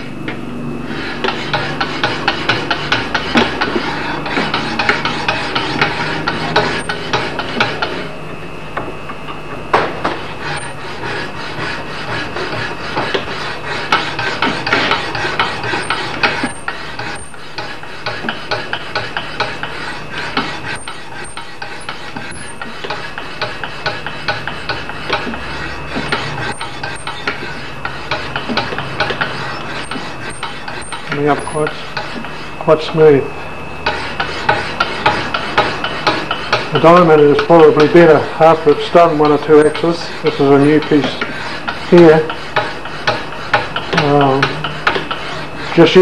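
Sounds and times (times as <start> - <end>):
sharpening stone rasping on steel: 0.9 - 8.1, 10.2 - 32.8, 33.8 - 46.0.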